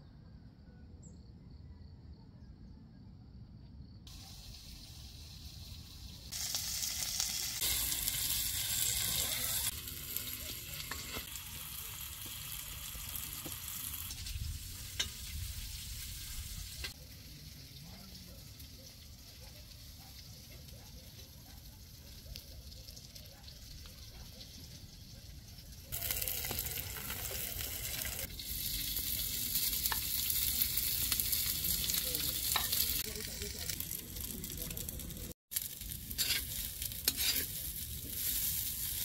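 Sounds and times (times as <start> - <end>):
sausages sizzling in a pan: 4.1 - 39.0.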